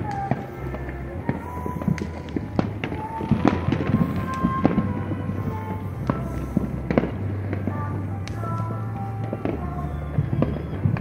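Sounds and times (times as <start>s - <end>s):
fireworks bangs and crackles: 0.0s - 11.0s
music playing: 0.0s - 11.0s.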